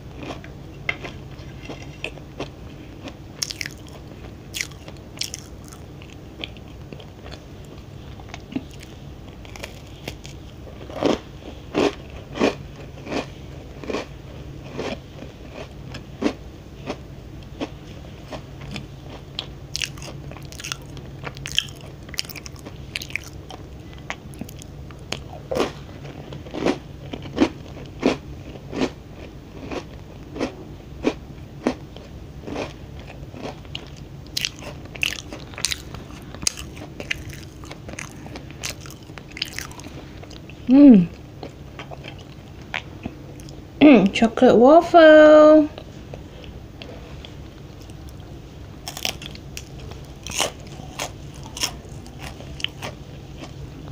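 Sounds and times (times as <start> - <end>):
crunchy cookie chewing: 0.0 - 43.6, 45.8 - 53.9.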